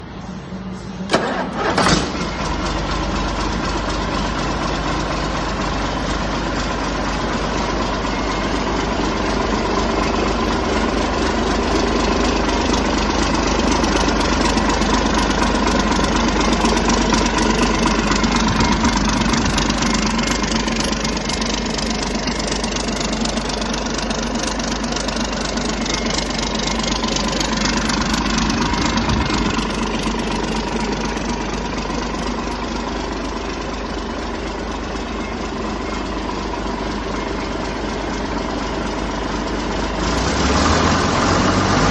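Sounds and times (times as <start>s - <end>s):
diesel engine cranking and idling: 0.0s - 41.9s.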